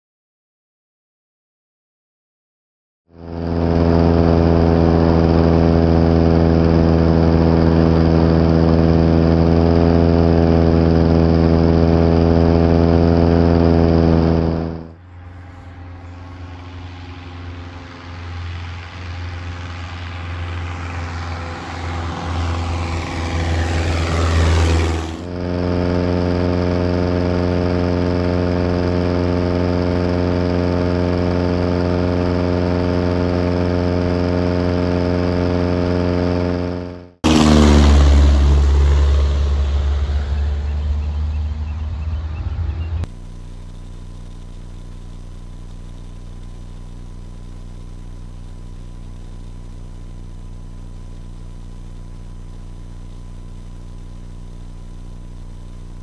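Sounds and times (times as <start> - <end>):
light aircraft engine droning: 3.1 - 56.0.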